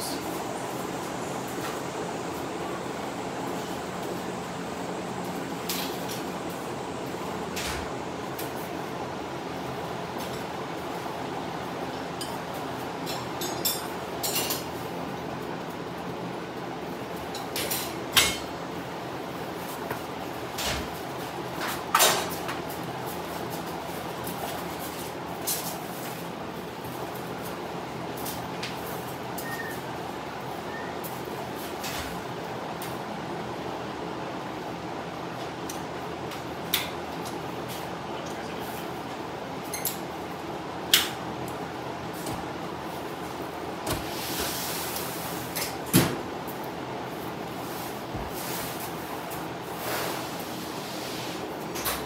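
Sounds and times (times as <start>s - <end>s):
fan rushing air: 0.0s - 52.0s.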